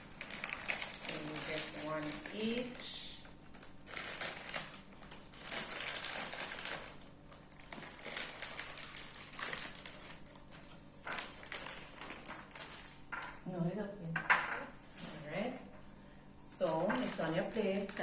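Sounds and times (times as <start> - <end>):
plastic chip bag crinkling: 0.0 - 13.4, 16.5 - 18.0.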